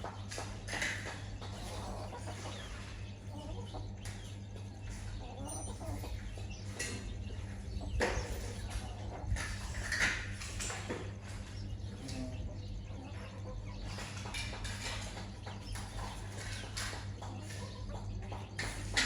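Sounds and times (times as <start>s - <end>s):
chickens clucking: 0.0s - 19.0s
steady low hum: 0.0s - 19.0s.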